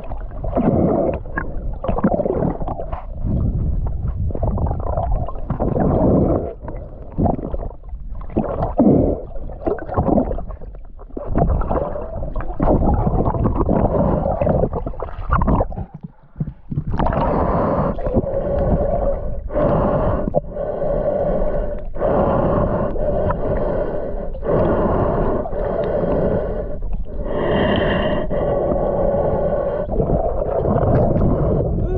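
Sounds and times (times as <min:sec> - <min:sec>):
muffled water gurgling: 0:00.0 - 0:31.9
snorkel breathing: 0:00.0 - 0:31.9.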